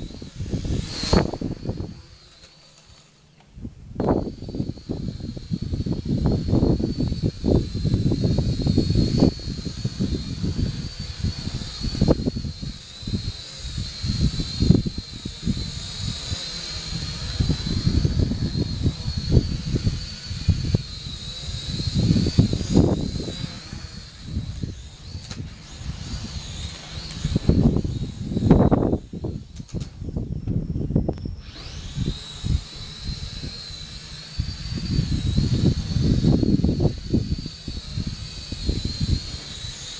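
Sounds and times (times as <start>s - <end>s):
wind buffeting microphone: 0.0s - 2.3s, 3.5s - 39.9s
quadcopter motors whining: 0.0s - 39.9s.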